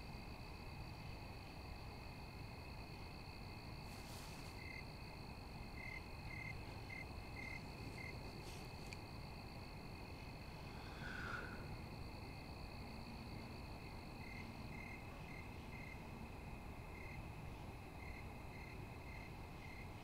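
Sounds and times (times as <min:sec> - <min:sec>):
crickets trilling: 0:00.0 - 0:20.0
louder lower insect call: 0:00.0 - 0:20.0.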